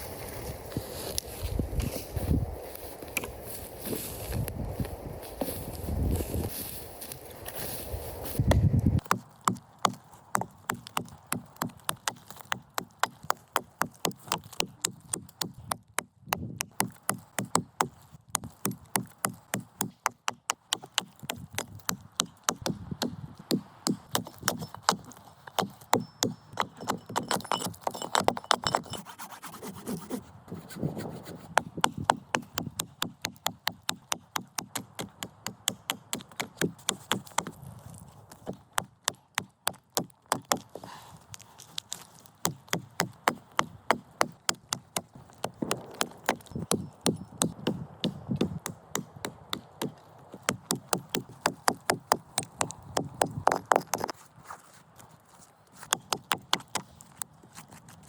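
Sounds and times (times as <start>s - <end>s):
hand tool chopping wood: 8.4s - 30.2s, 31.5s - 54.2s, 55.8s - 58.0s.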